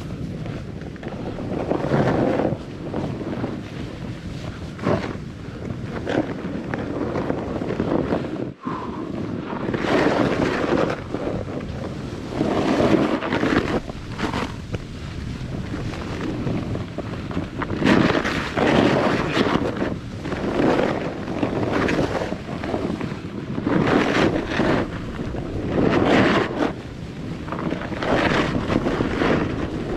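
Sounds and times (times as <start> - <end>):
snowboard edge hissing and scraping: 0.0 - 29.9
wind buffeting microphone: 0.0 - 29.9.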